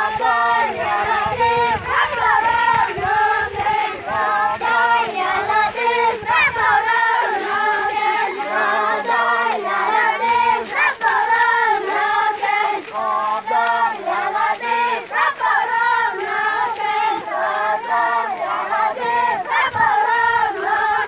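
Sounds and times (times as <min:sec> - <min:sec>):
children chanting: 0:00.0 - 0:21.0.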